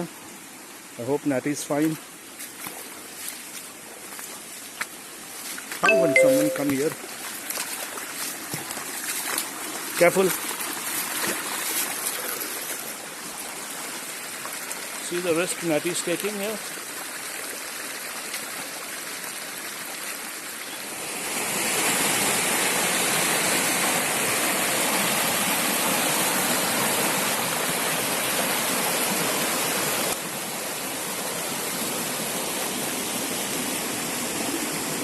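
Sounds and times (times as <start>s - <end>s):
forest stream rushing: 0.0s - 35.0s.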